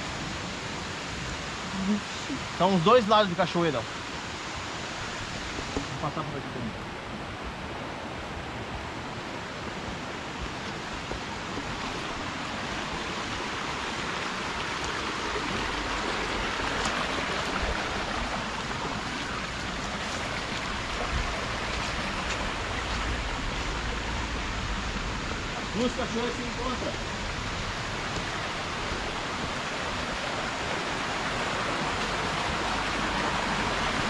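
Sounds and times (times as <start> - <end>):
stream flowing over stones: 0.0 - 34.0.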